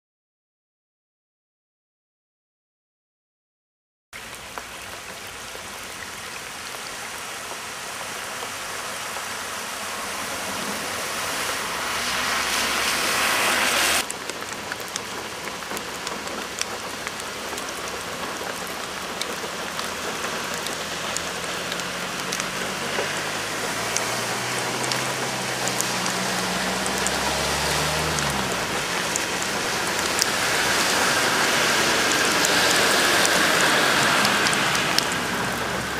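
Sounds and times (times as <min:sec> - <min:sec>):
heavy rain pouring into floodwater: 0:04.2 - 0:35.9
vehicle engine hum: 0:04.2 - 0:35.9.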